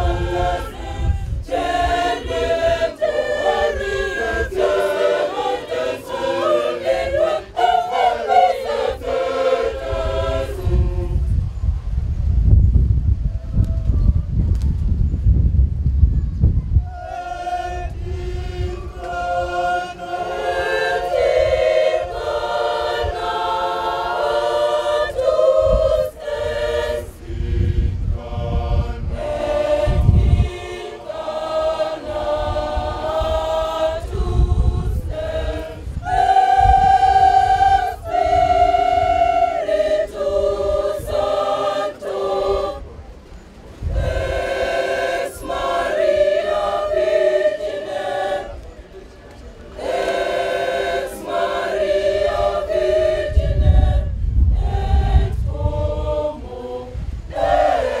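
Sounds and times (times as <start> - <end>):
women's choir singing: 0.0 - 11.5, 16.9 - 48.9, 49.7 - 58.0.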